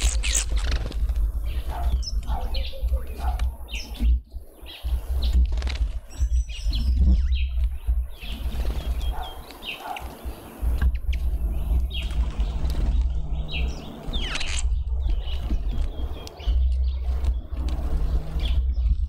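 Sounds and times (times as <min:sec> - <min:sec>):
small birds chirping: 0:00.0 - 0:19.0
steady low rumble: 0:00.0 - 0:19.0
wing flutters: 0:00.0 - 0:19.0.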